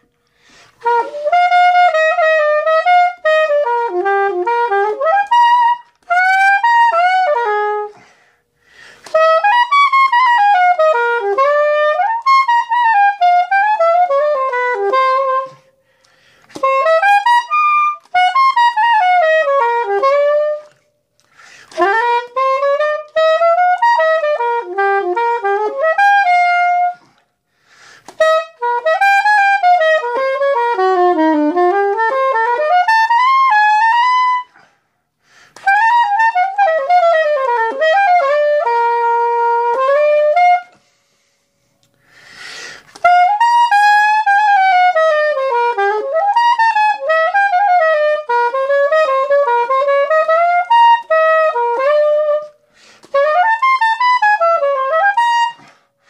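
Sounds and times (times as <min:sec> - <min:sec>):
soprano saxophone jazz solo: 0:00.0 - 0:56.0.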